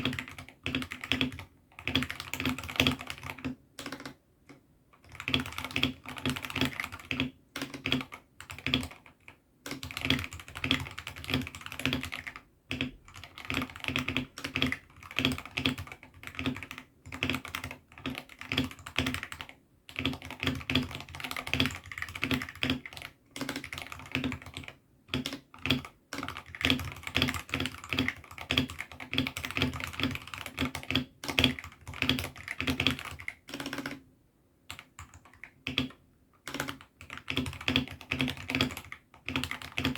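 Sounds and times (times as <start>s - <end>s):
mechanical keyboard typing: 0.0s - 34.0s, 34.6s - 39.9s.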